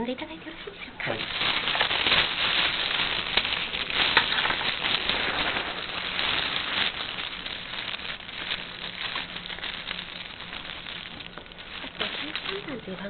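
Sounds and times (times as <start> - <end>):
fabric rustling on microphone: 1.2 - 13.0.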